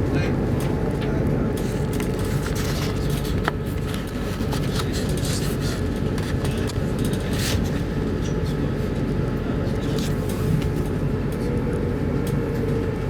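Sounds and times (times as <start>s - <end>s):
train running low rumble: 0.0s - 13.0s.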